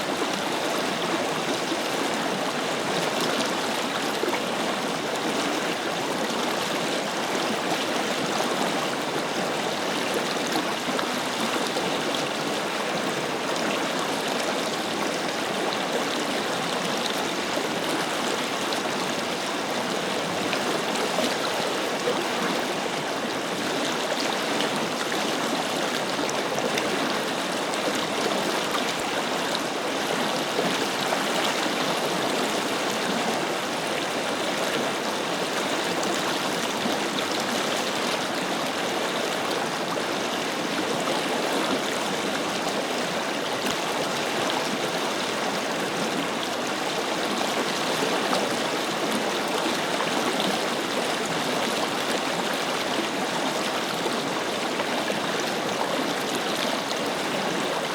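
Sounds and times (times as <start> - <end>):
river flowing: 0.0 - 57.9.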